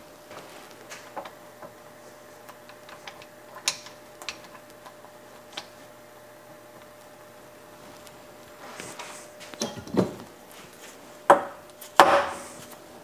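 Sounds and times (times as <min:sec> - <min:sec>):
faint machine hum: 0:00.0 - 0:13.0.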